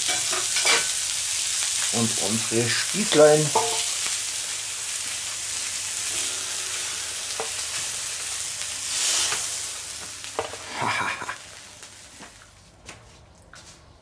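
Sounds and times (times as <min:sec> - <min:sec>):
skewers sizzling on a griddle: 0:00.0 - 0:12.6.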